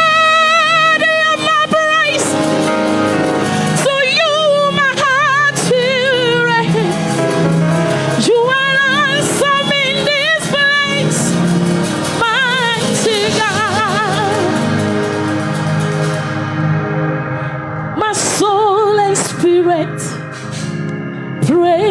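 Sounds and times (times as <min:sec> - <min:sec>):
woman singing gospel: 0:00.0 - 0:15.2, 0:18.0 - 0:20.3, 0:21.4 - 0:21.9
sustained instrumental backing: 0:00.0 - 0:21.9.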